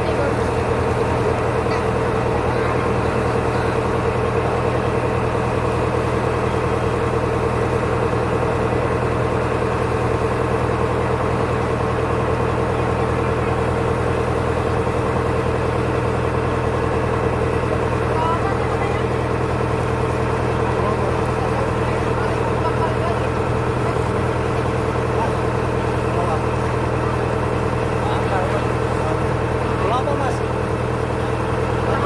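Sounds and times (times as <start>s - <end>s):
boat engine running: 0.0s - 32.0s.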